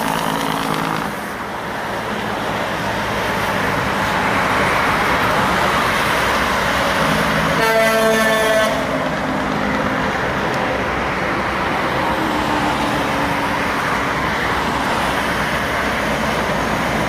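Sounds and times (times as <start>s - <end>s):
heavy road traffic: 0.0s - 17.0s.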